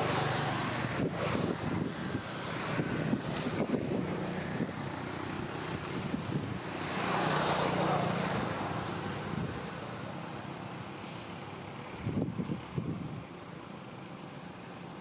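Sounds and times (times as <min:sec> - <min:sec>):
vehicle passing by: 0:00.0 - 0:12.3
road traffic rumble: 0:00.0 - 0:15.0.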